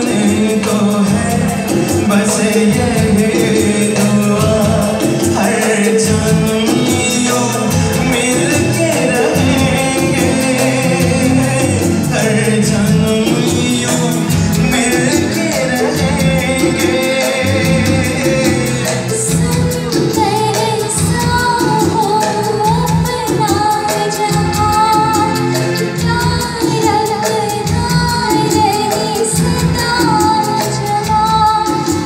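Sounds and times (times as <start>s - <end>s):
hand drums: 0.0s - 32.0s
keyboard: 0.0s - 32.0s
man singing into a microphone: 0.0s - 32.0s.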